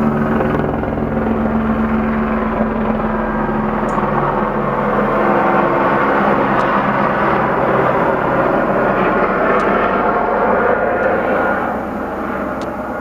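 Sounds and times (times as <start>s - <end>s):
helicopter turbine and rotors: 0.0s - 13.0s.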